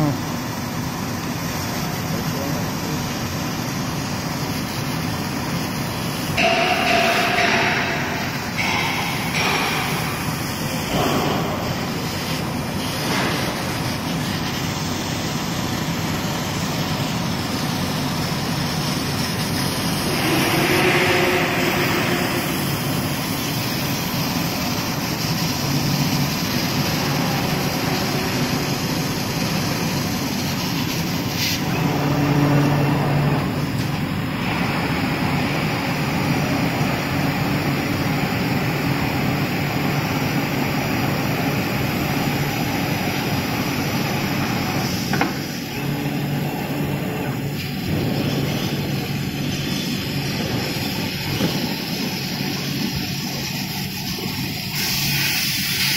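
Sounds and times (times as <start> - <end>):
exhaust fan rushing: 0.0 - 55.9.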